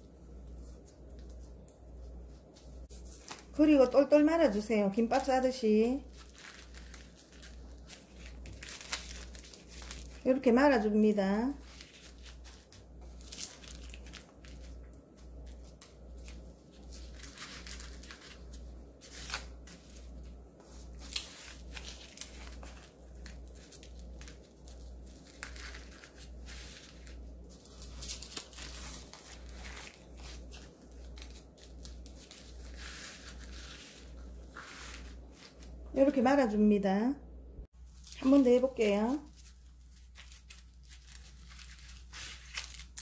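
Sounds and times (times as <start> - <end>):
dried seaweed sheets crinkling: 0.5 - 4.0, 5.0 - 35.9, 37.8 - 43.0.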